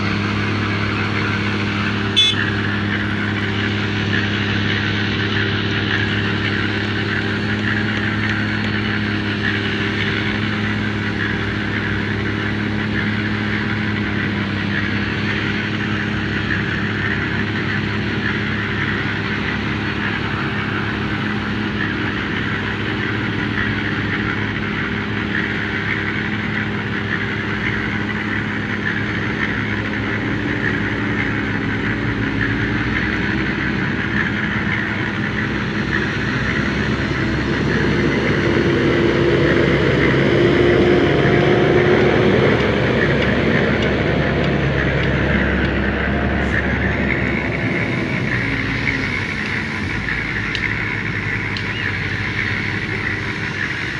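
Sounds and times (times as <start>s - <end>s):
grader diesel engine under load: 0.0s - 53.9s.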